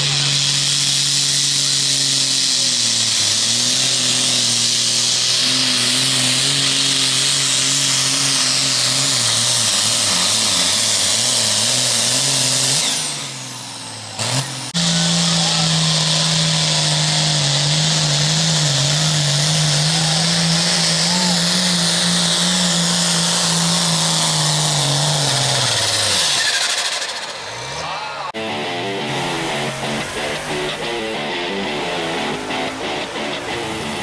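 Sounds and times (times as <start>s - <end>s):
tractor engine under load: 0.0s - 34.0s.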